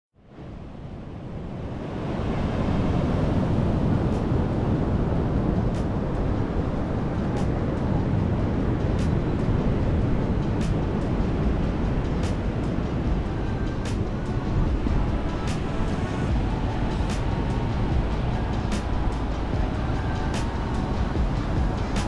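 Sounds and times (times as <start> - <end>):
vehicle road rumble: 0.2 - 22.0
wind on microphone: 0.2 - 22.0.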